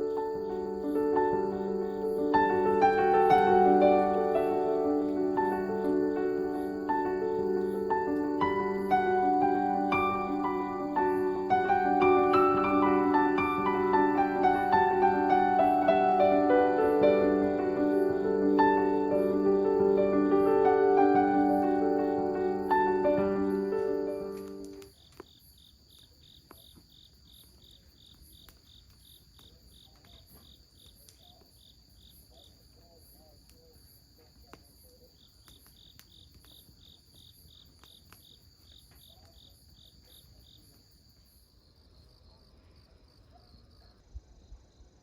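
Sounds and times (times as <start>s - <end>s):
crickets chirping: 0.0s - 45.0s.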